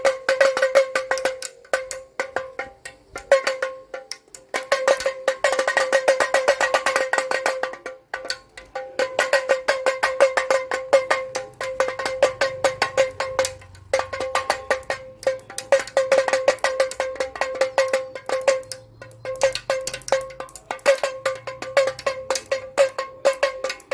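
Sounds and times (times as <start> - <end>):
hand drum rattling: 0.0 - 23.9.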